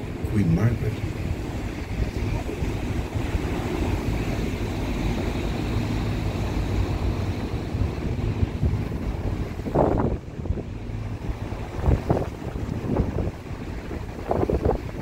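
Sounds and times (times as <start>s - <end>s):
choppy water: 0.0s - 15.0s
outboard motor droning: 0.0s - 15.0s
wind buffeting microphone: 0.0s - 15.0s.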